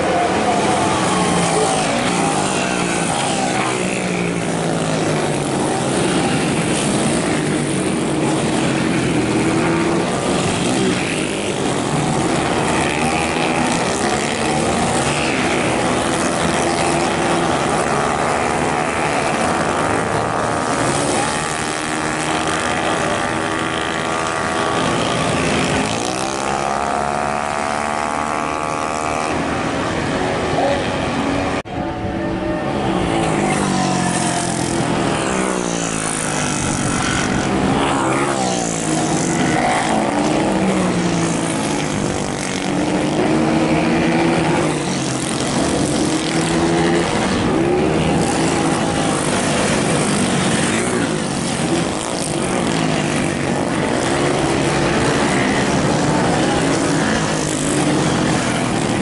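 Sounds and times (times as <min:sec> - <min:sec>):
race motorcycle engines revving: 0:00.0 - 0:59.0.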